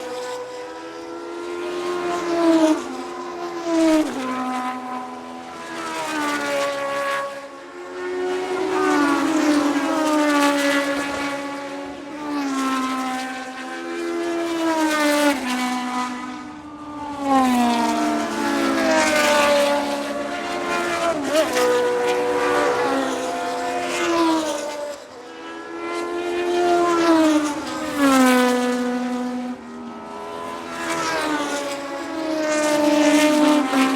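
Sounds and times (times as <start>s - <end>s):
race cars passing at speed: 0.0s - 33.9s.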